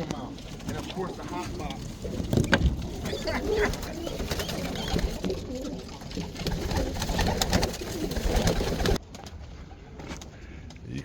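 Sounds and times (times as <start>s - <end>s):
pigeons cooing: 0.0s - 9.0s.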